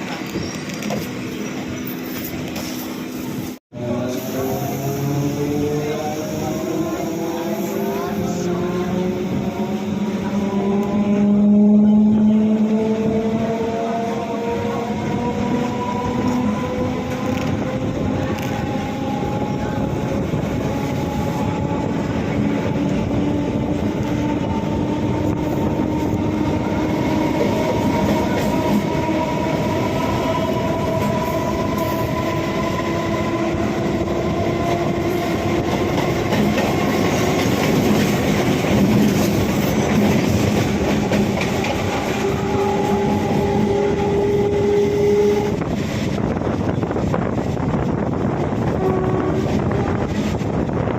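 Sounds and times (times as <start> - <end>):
wheels rumbling on rails: 0.0 - 50.9.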